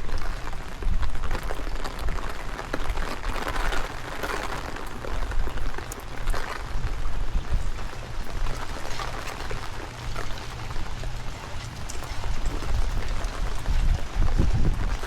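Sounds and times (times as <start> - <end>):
close raindrop hits: 0.0 - 15.0
rain falling: 0.0 - 15.0
wind buffeting microphone: 0.0 - 15.0.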